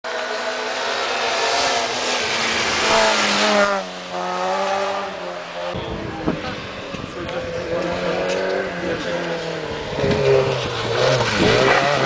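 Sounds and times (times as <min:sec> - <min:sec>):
rally car engine revving: 0:00.1 - 0:12.0.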